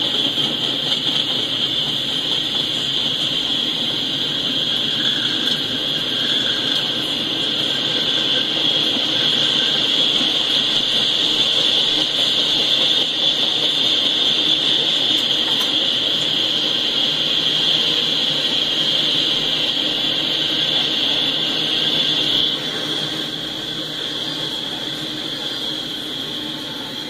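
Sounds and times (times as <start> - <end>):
train wheels on rail: 0.0 - 27.0.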